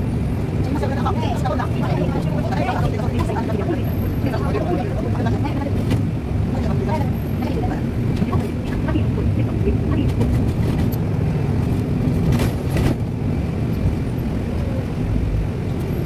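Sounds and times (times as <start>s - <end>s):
bus engine and road rumble: 0.0s - 16.0s
rattle inside bus: 0.0s - 16.0s.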